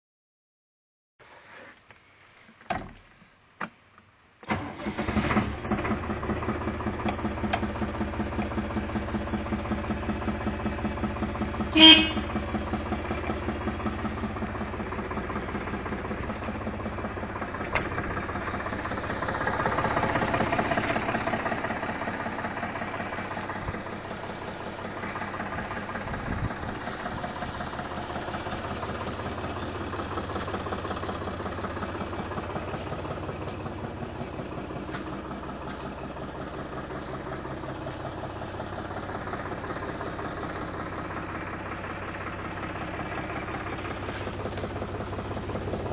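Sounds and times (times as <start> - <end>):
forklift engine idling: 4.5 - 45.9.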